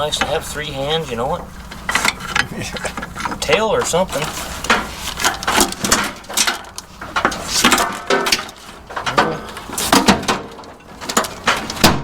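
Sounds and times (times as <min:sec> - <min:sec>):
hand tools knocking on metal parts: 0:01.1 - 0:12.0.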